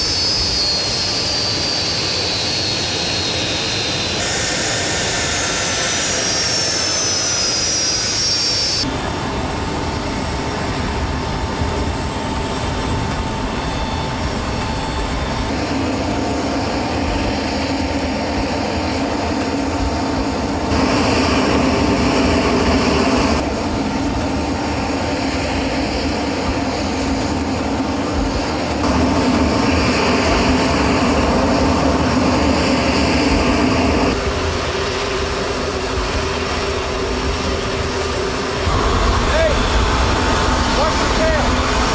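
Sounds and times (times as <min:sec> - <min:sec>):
aircraft turbine engine whine: 0:00.0 - 0:41.9.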